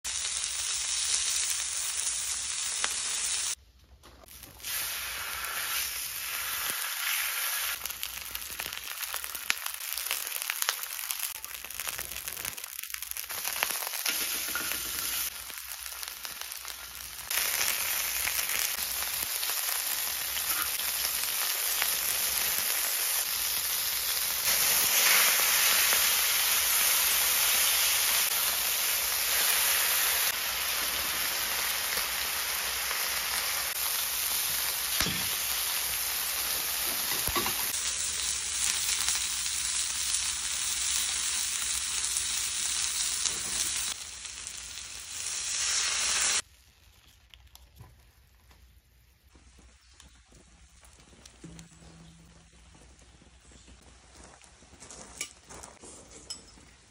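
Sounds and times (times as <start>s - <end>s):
meat sizzling on griddle: 0.1s - 3.6s, 4.3s - 46.5s.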